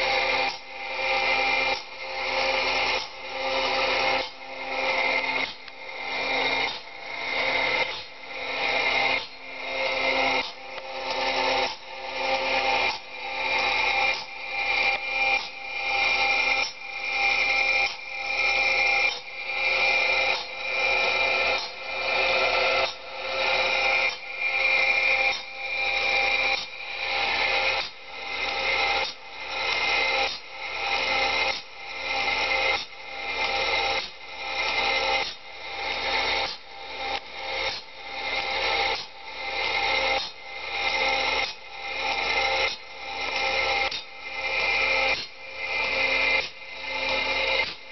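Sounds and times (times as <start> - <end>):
machine grinding saw blade: 0.0 - 47.9
steady machine whine: 0.0 - 47.9.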